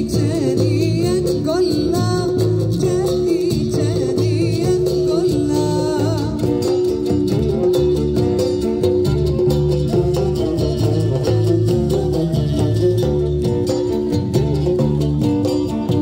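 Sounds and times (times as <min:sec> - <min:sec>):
live band playing: 0:00.0 - 0:16.0
plucked strings: 0:00.0 - 0:16.0
steady bass line: 0:00.0 - 0:16.0
wavering melody: 0:00.0 - 0:16.0.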